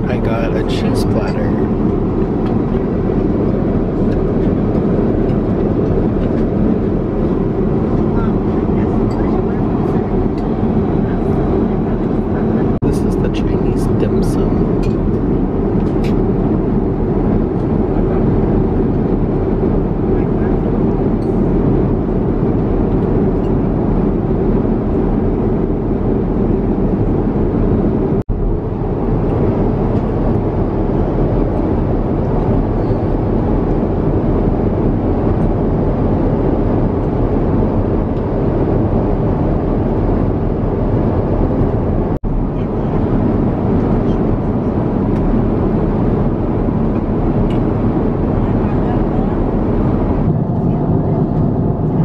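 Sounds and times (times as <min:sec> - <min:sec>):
airliner cabin drone: 0:00.0 - 0:52.0.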